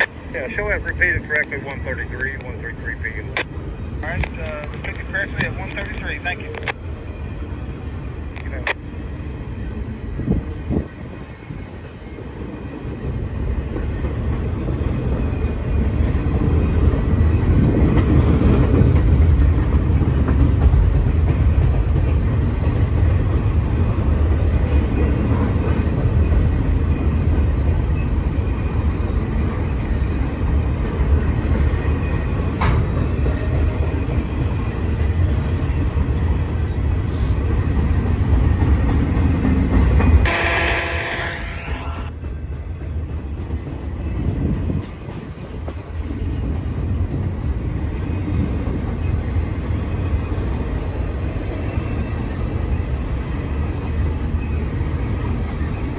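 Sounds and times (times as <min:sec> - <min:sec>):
freight train rumbling past: 0:00.0 - 0:55.9
wind buffeting microphone: 0:03.2 - 0:40.2, 0:42.2 - 0:53.2.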